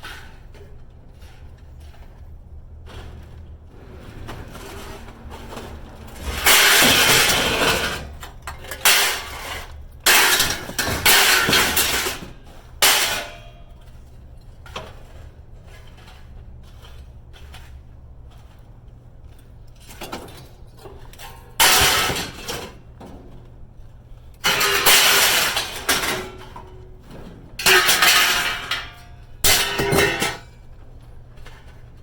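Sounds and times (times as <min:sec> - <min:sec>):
scrap metal clattering and crashing: 0:02.8 - 0:17.8, 0:19.8 - 0:32.0.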